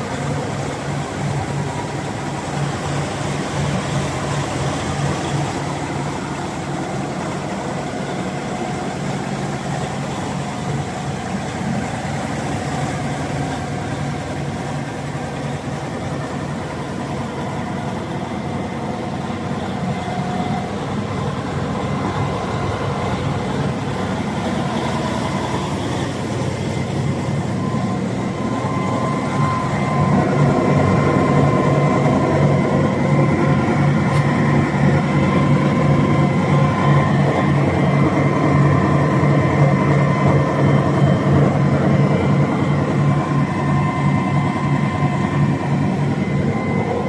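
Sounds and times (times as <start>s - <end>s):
tractor diesel engine idling: 0.0s - 47.0s.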